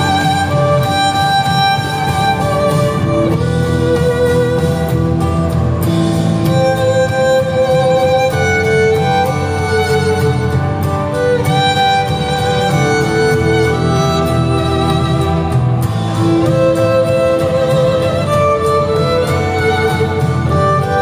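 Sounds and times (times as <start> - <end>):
low bass line: 0.0 - 21.0
violin melody: 0.0 - 21.0.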